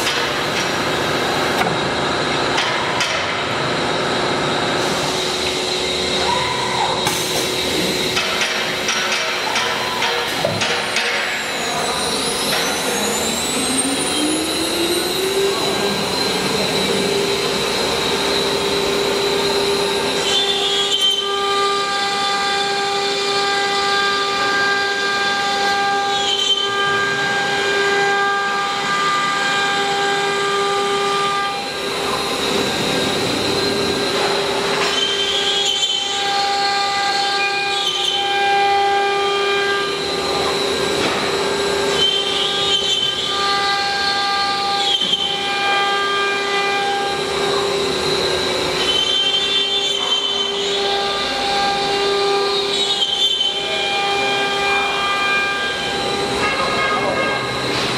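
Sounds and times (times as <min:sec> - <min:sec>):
router spindle whine: 0:00.0 - 0:57.9.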